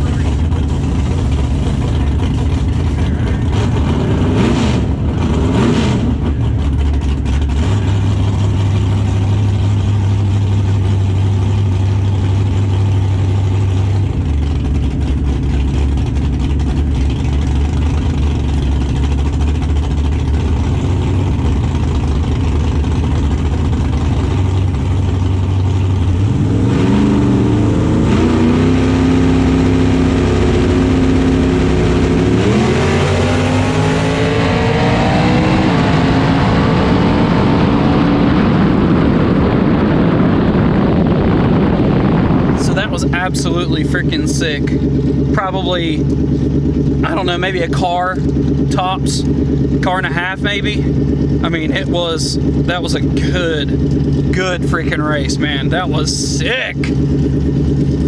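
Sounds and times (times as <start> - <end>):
engine droning and revving: 0.0 - 58.0.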